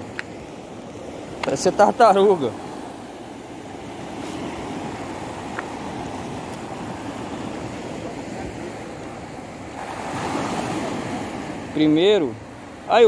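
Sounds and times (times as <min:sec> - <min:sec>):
surf washing over rocks: 0:00.0 - 0:13.0.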